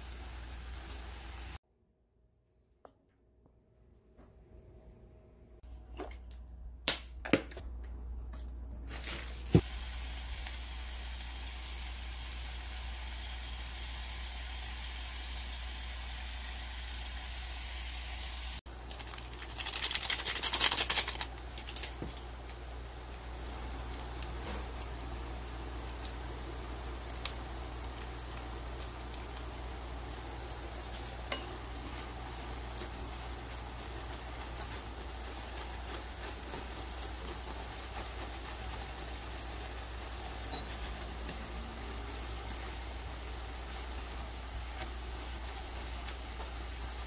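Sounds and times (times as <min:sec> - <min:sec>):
frying pan sizzling: 0:00.0 - 0:01.6, 0:08.9 - 0:47.0.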